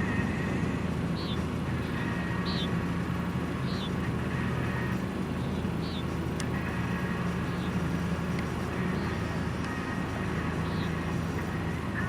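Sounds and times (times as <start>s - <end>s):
vehicle engine and road hum: 0.0s - 12.0s.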